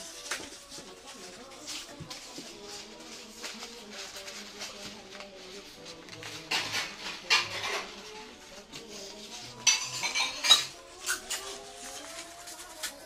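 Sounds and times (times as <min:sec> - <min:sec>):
foam wrapping paper crinkling: 0:00.0 - 0:13.0.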